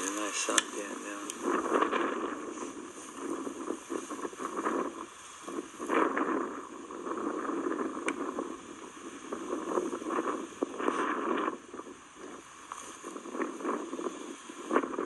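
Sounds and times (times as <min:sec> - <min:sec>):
wind gusting on microphone: 0:00.0 - 0:15.0.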